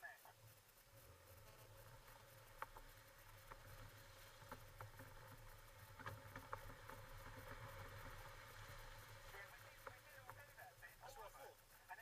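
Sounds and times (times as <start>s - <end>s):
sharp clicks and knocks: 0.4s - 10.9s
vehicle driving low drone: 0.8s - 10.9s.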